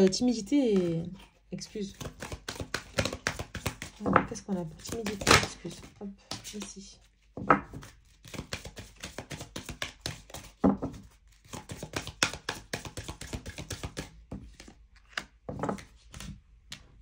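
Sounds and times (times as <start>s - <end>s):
cards clicking and tapping on a table: 0.0s - 6.8s, 7.4s - 17.0s.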